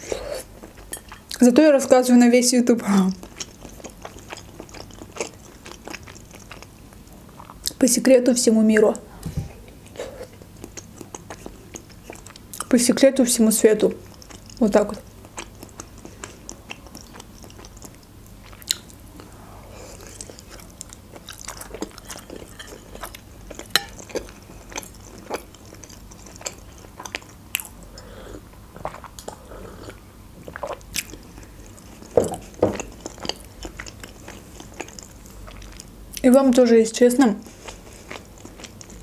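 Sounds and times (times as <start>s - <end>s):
wet chewing sounds: 3.0s - 7.8s, 9.7s - 12.8s, 13.9s - 36.3s, 37.5s - 39.0s.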